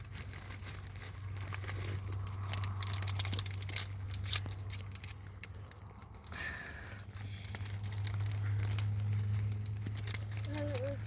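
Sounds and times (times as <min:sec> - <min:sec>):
plastic wrapper crinkling: 0:00.0 - 0:06.3, 0:07.0 - 0:11.0
steady low hum: 0:00.0 - 0:11.0.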